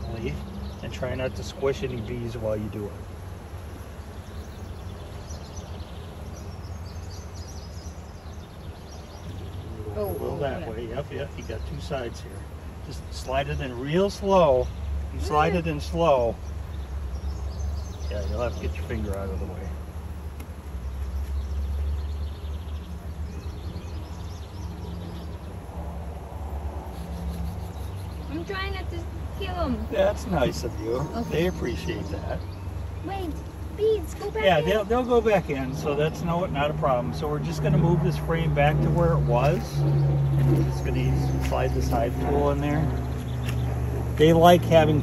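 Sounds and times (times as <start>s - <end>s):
honeybees humming: 0.0s - 45.0s.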